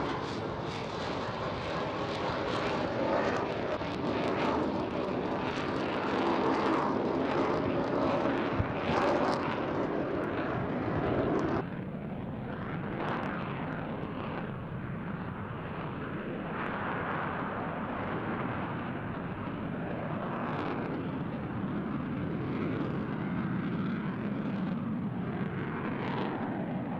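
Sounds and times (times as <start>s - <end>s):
jet engines roaring with crackle: 0.0s - 26.9s.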